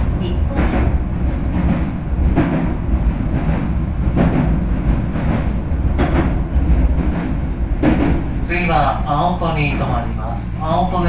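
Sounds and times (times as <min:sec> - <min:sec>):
train wheel clacks: 0:00.0 - 0:10.5
train interior rumble: 0:00.0 - 0:11.0.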